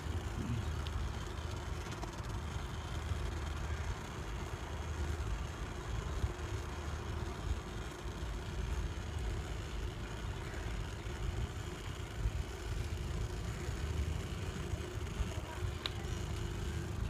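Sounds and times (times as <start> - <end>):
bicycle tyres rolling on pavement: 0.0 - 17.0.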